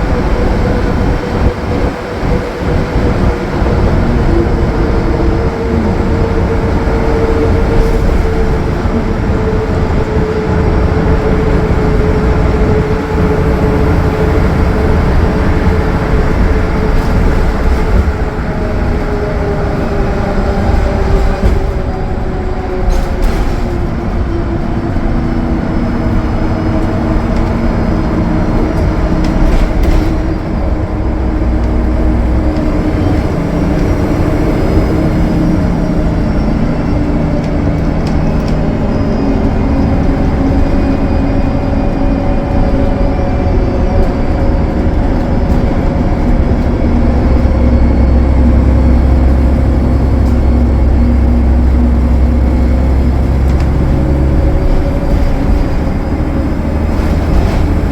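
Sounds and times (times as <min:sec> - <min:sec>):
bus diesel engine running: 0:00.0 - 0:57.9
road noise: 0:00.0 - 0:57.9.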